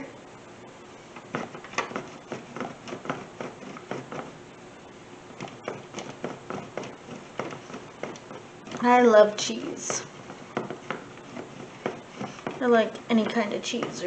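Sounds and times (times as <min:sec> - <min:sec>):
cheese rasping on a grater: 0:01.3 - 0:04.4, 0:05.4 - 0:14.0.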